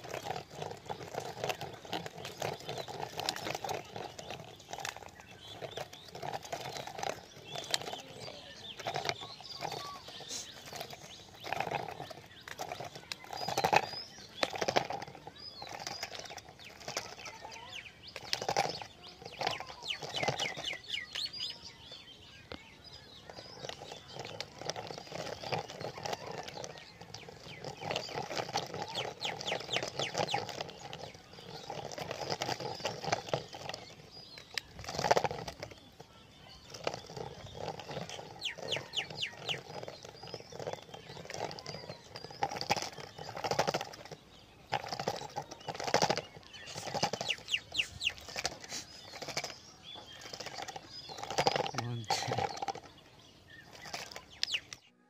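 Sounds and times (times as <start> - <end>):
toy car knocking: 0.0 - 21.6, 22.4 - 54.8
toy car motor rattling buzz: 0.0 - 21.8, 22.6 - 54.9.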